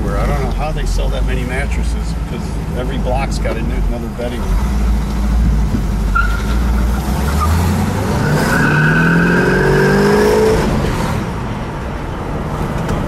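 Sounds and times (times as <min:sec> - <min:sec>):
car engine accelerating: 0:00.0 - 0:11.8.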